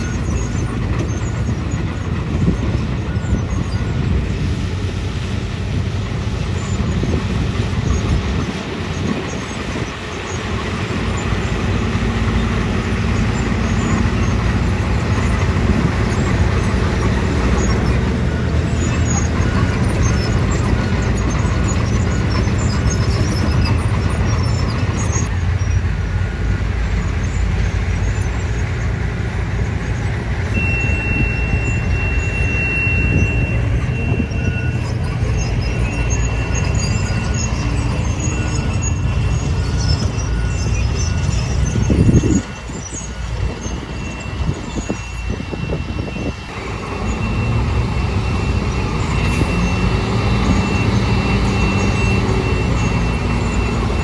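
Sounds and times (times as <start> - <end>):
diesel engine rumbling: 0.0 - 54.0
high-pitched whine: 0.0 - 54.0.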